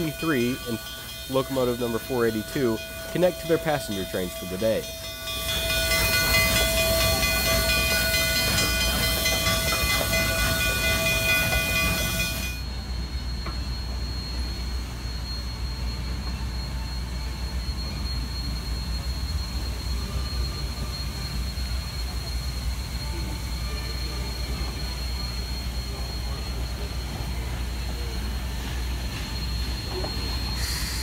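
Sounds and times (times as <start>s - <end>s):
steam venting hiss: 0.0s - 12.5s, 17.0s - 31.0s
locomotive rumbling: 0.0s - 31.0s.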